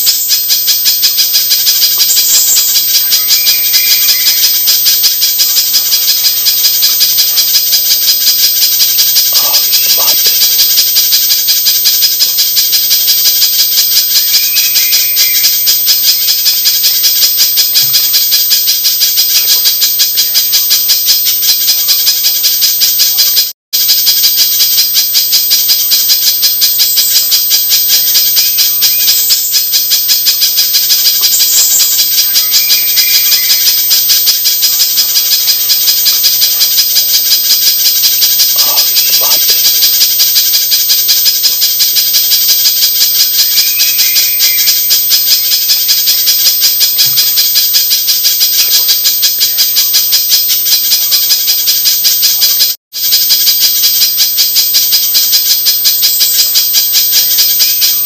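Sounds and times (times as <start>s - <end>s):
bird call rapid high chips: 0.0s - 20.7s, 23.2s - 49.6s, 55.0s - 58.0s.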